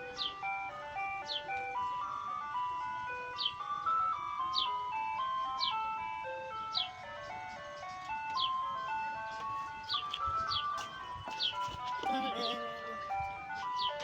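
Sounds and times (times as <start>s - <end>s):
ice cream truck jingle: 0.0s - 14.0s.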